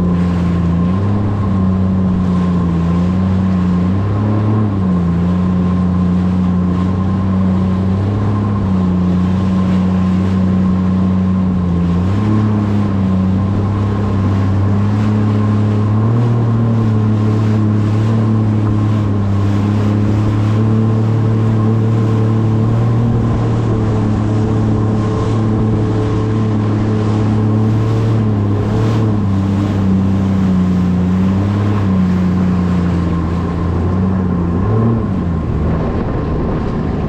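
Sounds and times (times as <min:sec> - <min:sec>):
jet ski engine humming: 0:00.0 - 0:37.0.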